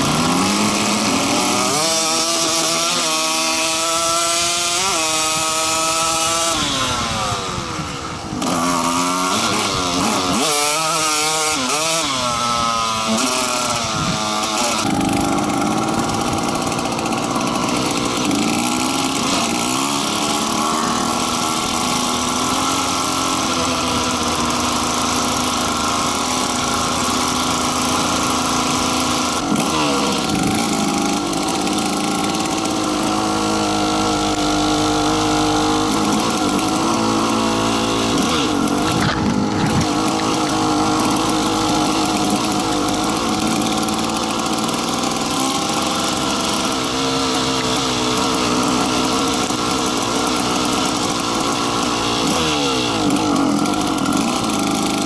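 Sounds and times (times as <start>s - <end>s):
snowmobile engine buzzing: 0.0s - 55.0s.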